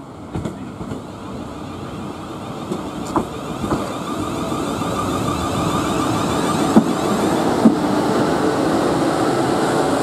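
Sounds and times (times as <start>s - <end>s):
electric train whine: 0.0s - 10.0s.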